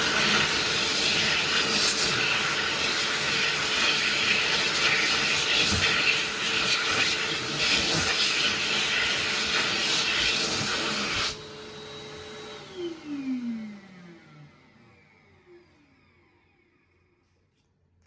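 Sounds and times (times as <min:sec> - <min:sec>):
hand dryer blowing: 0:00.0 - 0:14.5.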